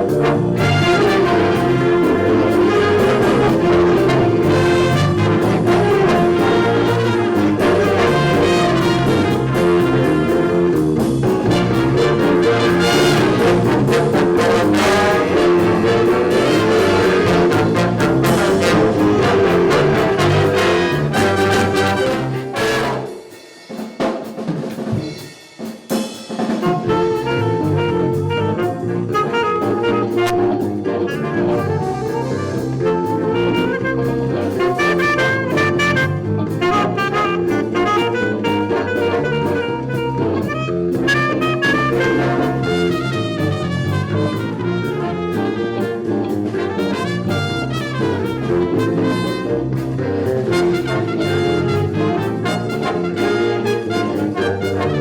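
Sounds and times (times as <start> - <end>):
brass: 0.0 - 25.3, 25.9 - 55.0
drum kit: 0.0 - 55.0
school band playing jazz: 0.0 - 55.0.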